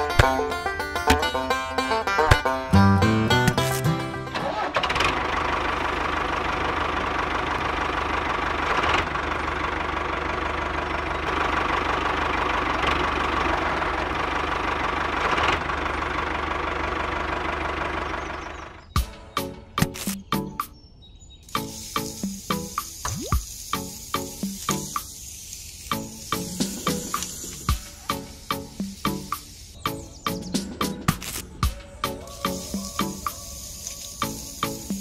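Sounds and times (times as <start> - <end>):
toy tractor engine running: 0.0 - 18.7, 21.5 - 29.8, 32.2 - 35.0.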